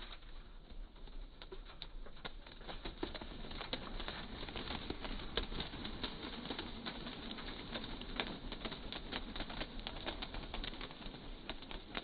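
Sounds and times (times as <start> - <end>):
pigeon wings flapping: 0.0 - 12.0.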